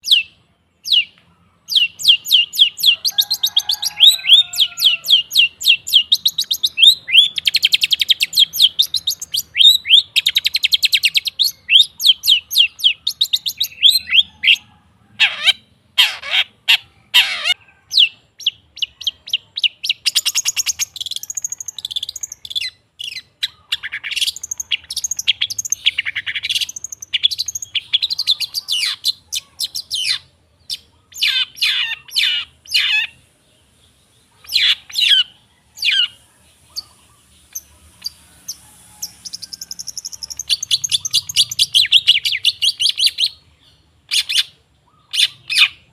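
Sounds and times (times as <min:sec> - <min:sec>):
harsh rasping bird calls: 0:00.0 - 0:45.9
shrike chattering song: 0:00.0 - 0:45.9.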